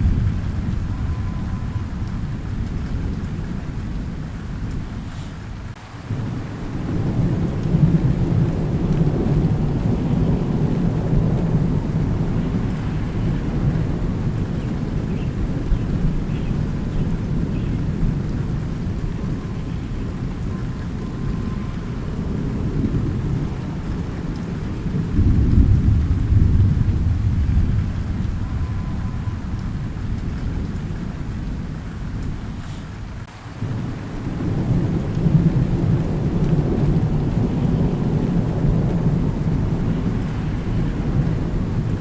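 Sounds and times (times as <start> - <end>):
steady rain: 0.0 - 42.0
thunder rumbling: 0.0 - 42.0.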